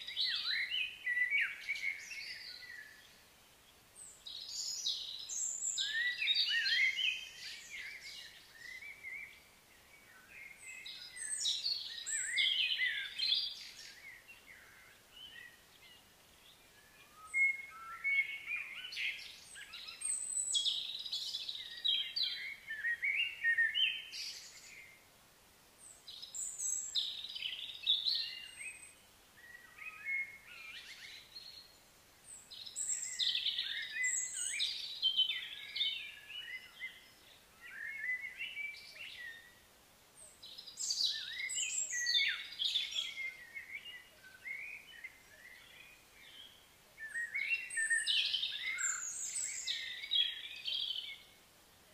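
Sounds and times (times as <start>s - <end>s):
songbird chirping and warbling: 0.0s - 25.1s, 25.8s - 51.9s.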